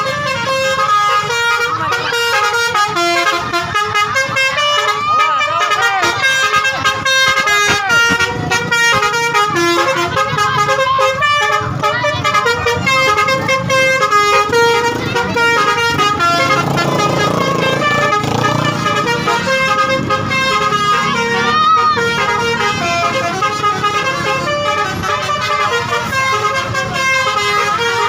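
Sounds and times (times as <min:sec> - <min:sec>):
multi-tone bus horns: 0:00.0 - 0:28.0.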